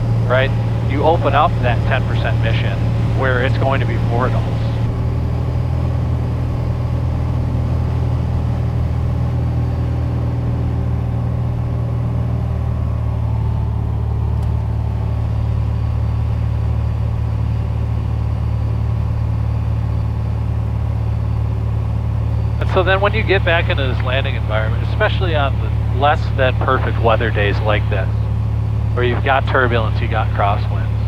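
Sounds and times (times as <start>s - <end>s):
aircraft engine droning: 0.0s - 31.0s.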